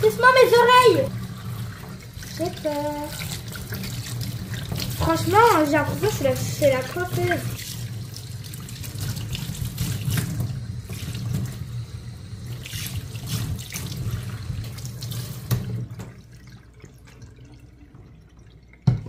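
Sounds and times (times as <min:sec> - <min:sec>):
tap water splashing into sink: 0:00.0 - 0:11.8, 0:12.4 - 0:19.0.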